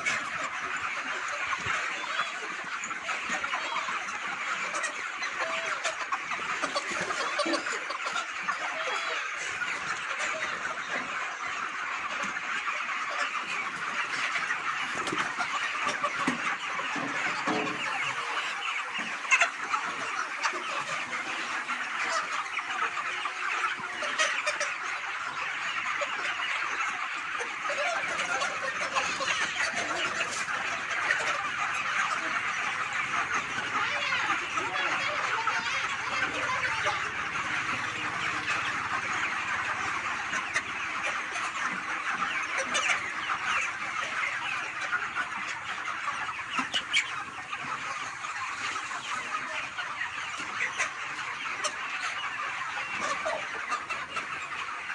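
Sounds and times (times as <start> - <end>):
chickens clucking and chirping: 0.0 - 54.9.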